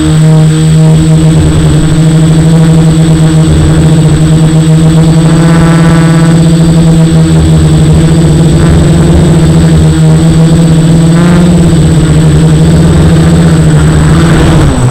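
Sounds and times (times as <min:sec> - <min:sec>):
quadcopter motors droning: 0:00.0 - 0:14.9.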